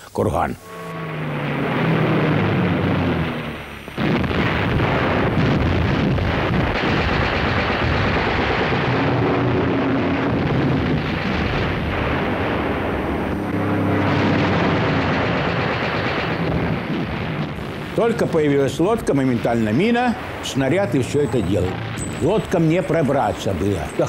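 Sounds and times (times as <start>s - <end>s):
explosions: 0.7s - 24.0s
continuous gunfire: 1.4s - 24.0s.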